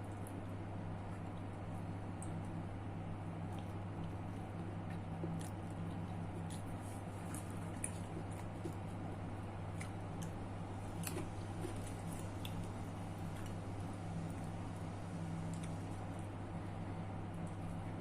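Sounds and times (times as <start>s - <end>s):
person chewing and eating: 0.0s - 18.0s
steady low hum: 0.0s - 18.0s.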